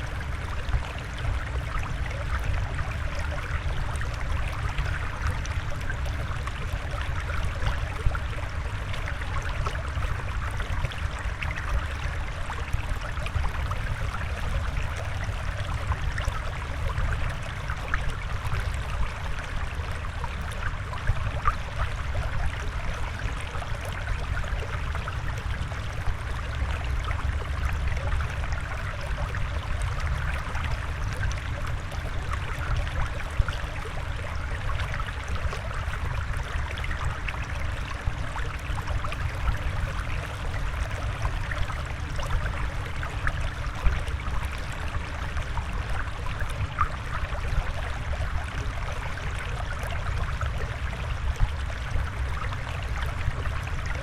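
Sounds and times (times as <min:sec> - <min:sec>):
water flowing and trickling: 0:00.0 - 0:54.0.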